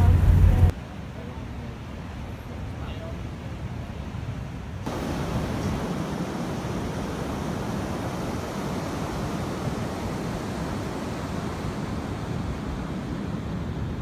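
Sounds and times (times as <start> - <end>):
ocean surf breaking: 1.6 - 14.0.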